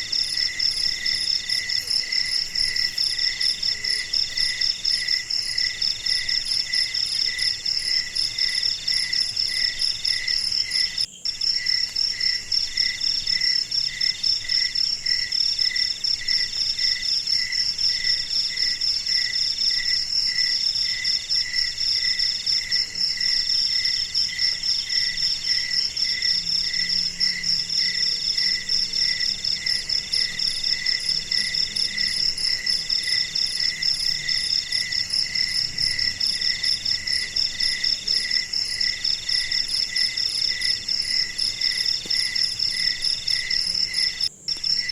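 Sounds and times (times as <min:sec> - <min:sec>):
high pulsing insect trill: 0:00.0 - 0:44.9
low insect chirp: 0:00.0 - 0:44.9
mid-pitched insect trill: 0:00.0 - 0:44.9.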